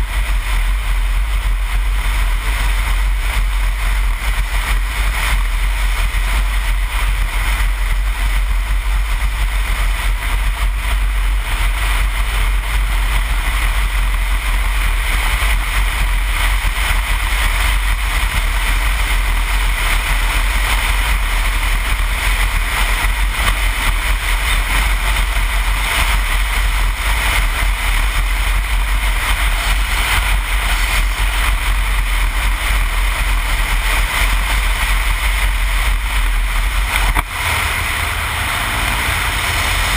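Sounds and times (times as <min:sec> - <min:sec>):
motorcycle engine: 0:00.0 - 0:39.9
road noise: 0:00.0 - 0:39.9
wind rush over microphone: 0:00.0 - 0:39.9.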